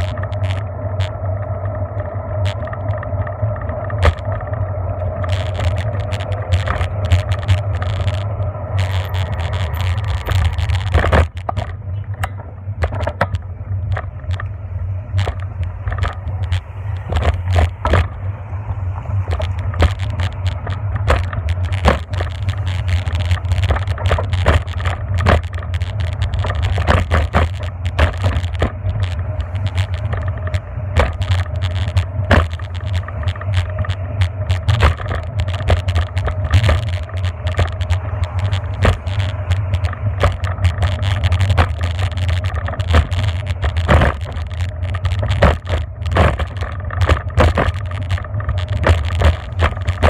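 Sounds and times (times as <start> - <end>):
bicycle ride rumble: 0.0 - 50.0
bike rattling over bumps: 0.0 - 50.0.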